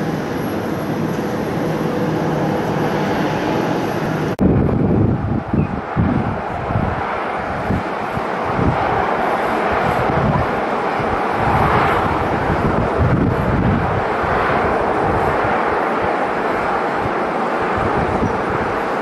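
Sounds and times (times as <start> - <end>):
jet aircraft engines: 0.0 - 19.0
wind gusts on microphone: 0.0 - 19.0.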